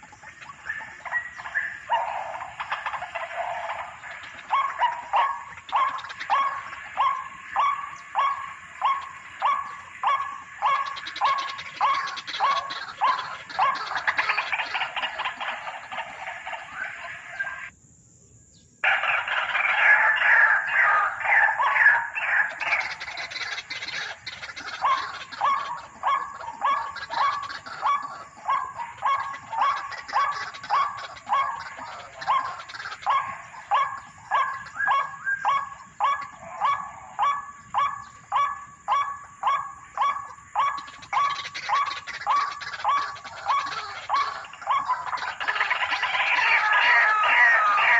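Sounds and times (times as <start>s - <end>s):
bird calling harsh notes: 0.0s - 17.7s, 18.8s - 47.9s.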